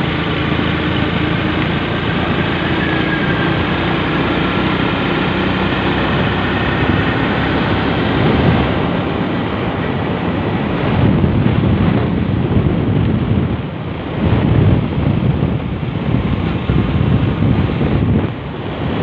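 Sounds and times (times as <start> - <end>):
motorcycle engine: 0.0 - 19.0
wind rushing over microphone: 0.0 - 19.0.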